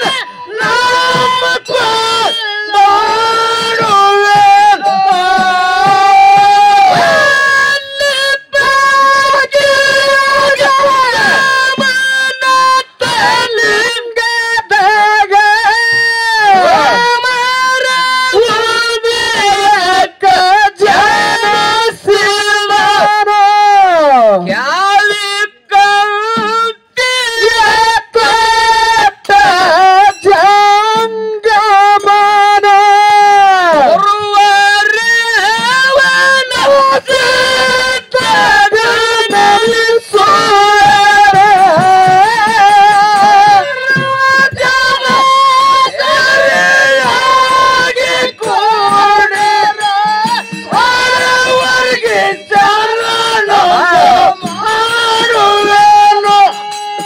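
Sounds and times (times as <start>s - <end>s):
man singing unaccompanied: 0.0s - 57.0s.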